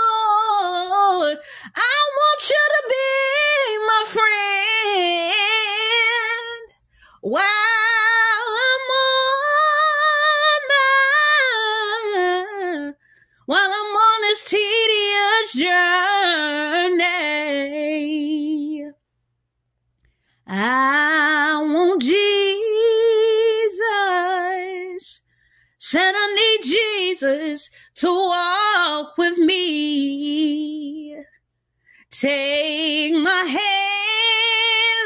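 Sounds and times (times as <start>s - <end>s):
woman singing unaccompanied: 0.0s - 19.0s, 20.5s - 25.2s, 25.8s - 31.3s, 32.1s - 35.0s.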